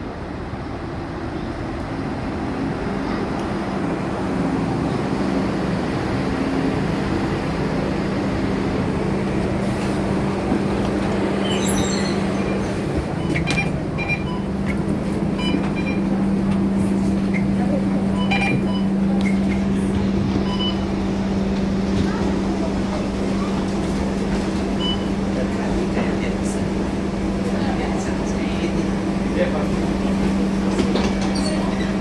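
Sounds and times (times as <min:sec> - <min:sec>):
bus diesel engine hum: 0:00.0 - 0:32.0.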